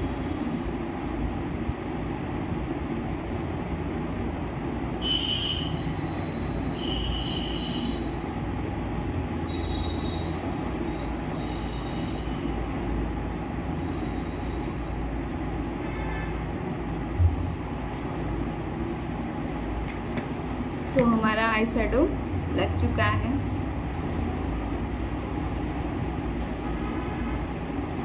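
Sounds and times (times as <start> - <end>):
low rumbling background noise: 0.0 - 28.0.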